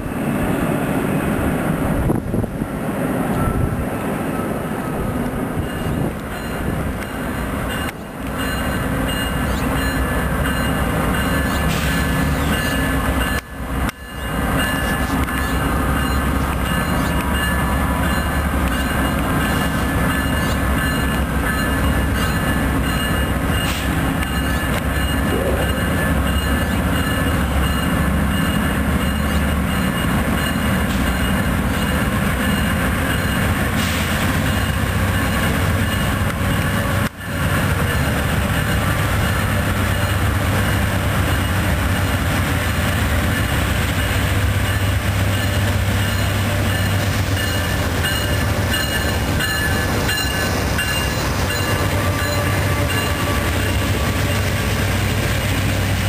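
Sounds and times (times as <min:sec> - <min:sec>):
diesel locomotive engine running: 0:00.0 - 0:56.0
train wheels on rails: 0:00.0 - 0:56.0.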